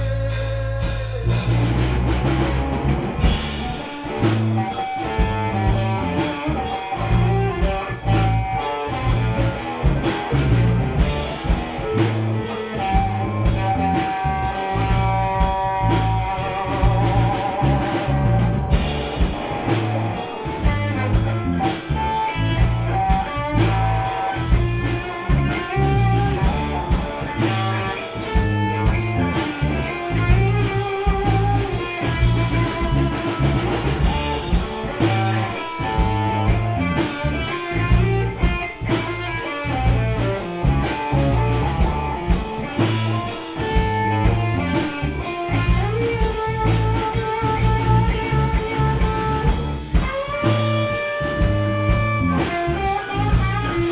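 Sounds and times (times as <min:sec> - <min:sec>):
drum kit beat: 0:00.0 - 0:53.9
guitar: 0:00.0 - 0:53.9.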